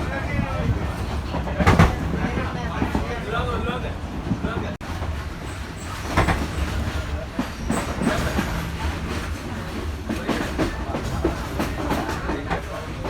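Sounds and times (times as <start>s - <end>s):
train carriage rumble: 0.0s - 13.0s
wheels clattering on rails: 0.0s - 13.0s.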